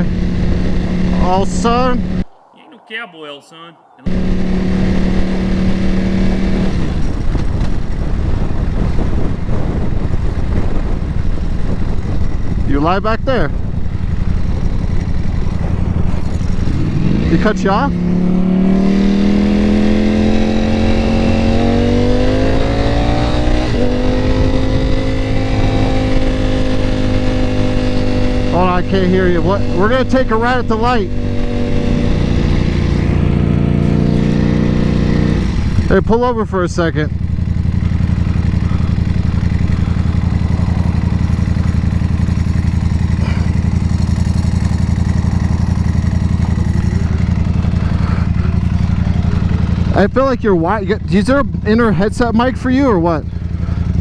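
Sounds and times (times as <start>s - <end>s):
motorcycle engine accelerating: 0.0s - 2.5s, 3.8s - 54.0s
wind and road noise: 0.0s - 54.0s.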